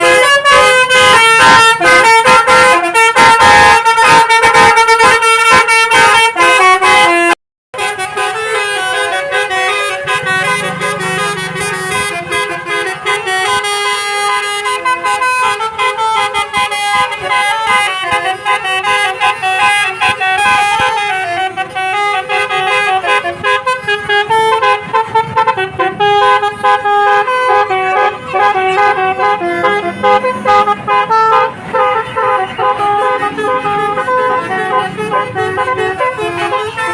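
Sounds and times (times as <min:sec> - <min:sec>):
musical bus horn tune: 0:00.0 - 0:36.9.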